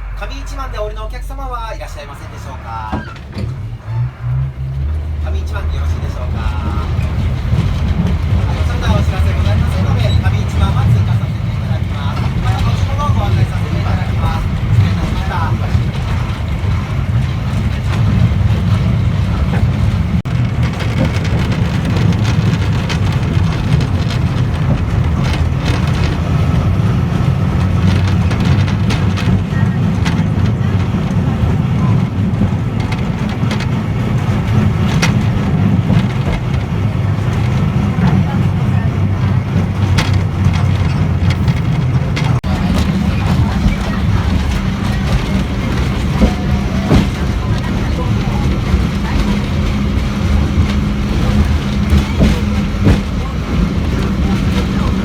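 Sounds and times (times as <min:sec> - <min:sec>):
diesel train rumbling: 0:00.0 - 0:55.0
wheels clicking and rattling: 0:00.0 - 0:55.0.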